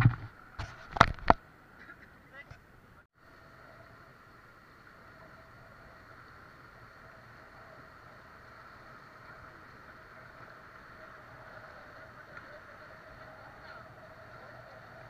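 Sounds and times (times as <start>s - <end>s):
wind: 0.0s - 15.0s
faint steady tone: 1.4s - 15.0s.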